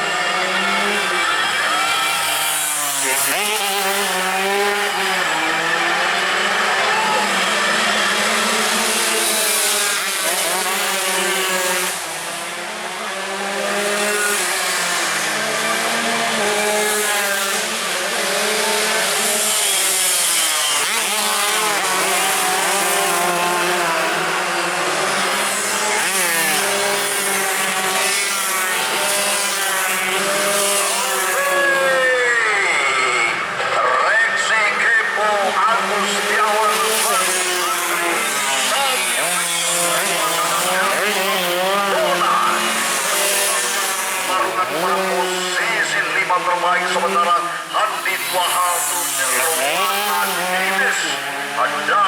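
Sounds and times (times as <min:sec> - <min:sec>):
racing motorcycles at high revs: 0:00.0 - 0:52.0.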